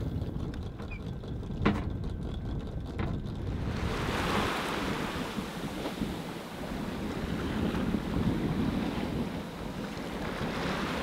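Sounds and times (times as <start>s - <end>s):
choppy sea against hull: 0.0s - 11.0s
wind buffeting microphone: 0.0s - 11.0s.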